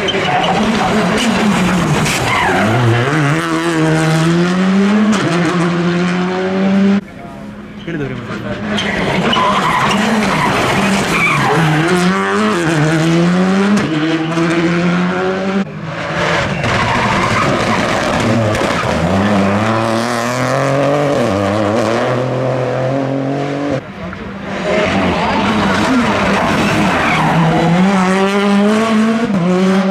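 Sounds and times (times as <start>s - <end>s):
rally car engine accelerating: 0.0s - 29.9s.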